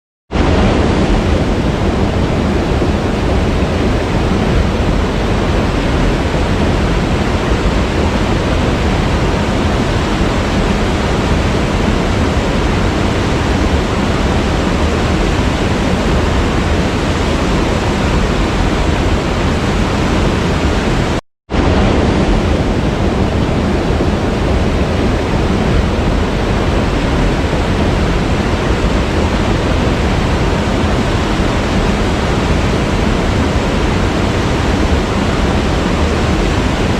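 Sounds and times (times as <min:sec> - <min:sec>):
waterfall rushing: 0:00.3 - 0:36.9.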